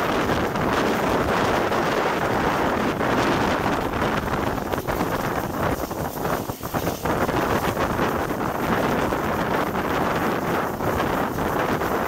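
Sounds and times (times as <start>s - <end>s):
train running noise: 0.0s - 12.0s
wind rushing over microphone: 0.0s - 12.0s.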